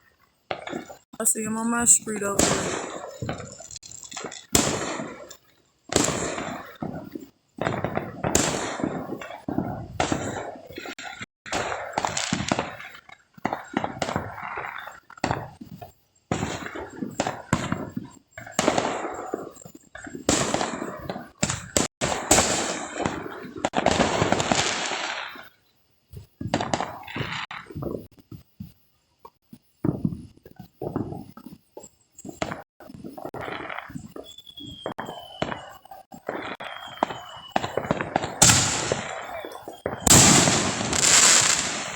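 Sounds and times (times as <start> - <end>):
fireworks bangs and crackles: 0.5 - 41.9.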